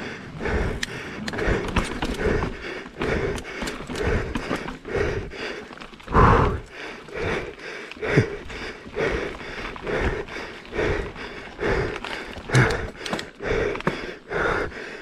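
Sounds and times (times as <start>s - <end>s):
heavy rhythmic panting: 0.0s - 15.0s
bike clicks and knocks: 0.5s - 14.7s.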